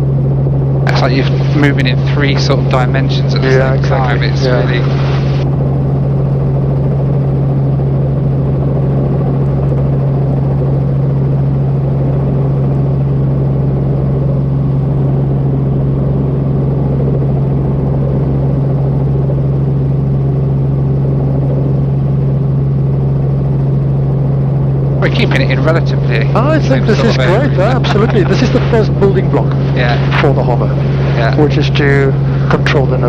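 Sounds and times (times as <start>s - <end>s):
helicopter engine and rotor drone: 0.0s - 33.0s.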